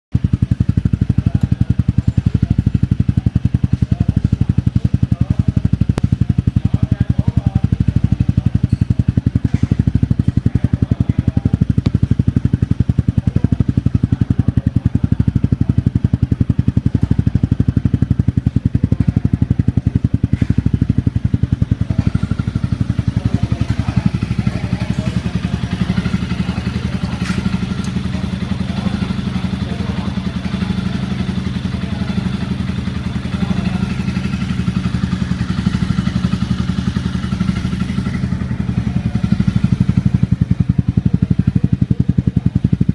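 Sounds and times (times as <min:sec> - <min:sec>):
motorcycle engine running steadily: 0:00.1 - 0:42.9.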